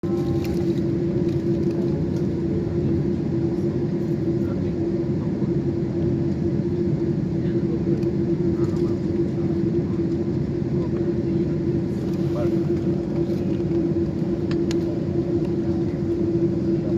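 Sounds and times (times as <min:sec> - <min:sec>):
airplane cabin rumble and hum: 0:00.0 - 0:16.9.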